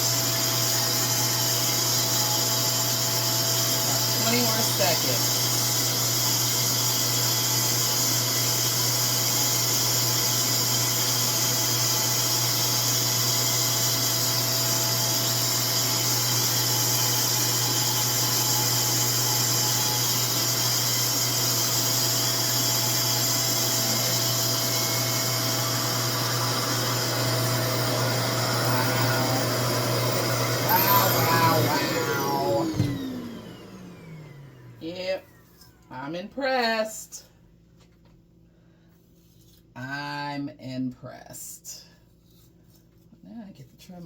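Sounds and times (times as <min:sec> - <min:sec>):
hair dryer running: 0:00.0 - 0:36.1.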